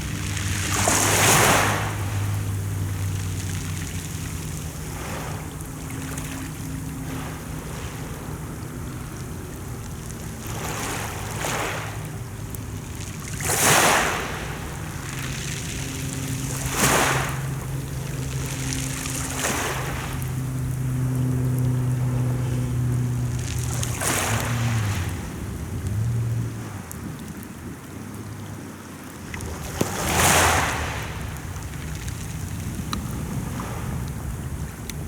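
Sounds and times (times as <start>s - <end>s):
sea waves washing in: 0.0s - 35.0s
steady low mechanical hum: 0.0s - 35.0s.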